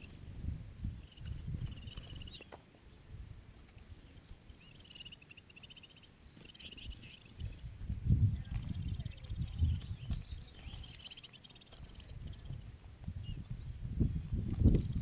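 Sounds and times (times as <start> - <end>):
small birds chirping: 0.0 - 0.3, 1.0 - 3.1, 3.7 - 15.0.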